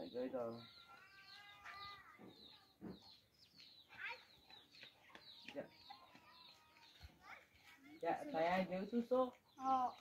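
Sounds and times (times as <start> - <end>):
faint bird chirps: 0.0 - 8.4.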